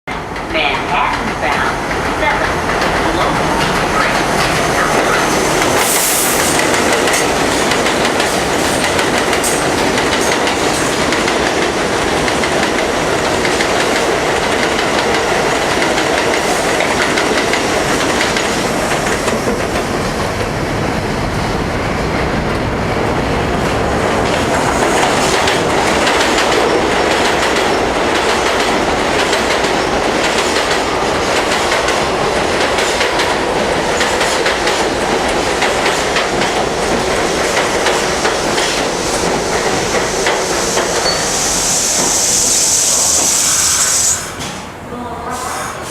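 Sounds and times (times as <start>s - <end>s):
steel wheels clattering over rails: 0.1s - 20.6s, 23.6s - 42.2s
train pulling into station: 0.1s - 45.9s.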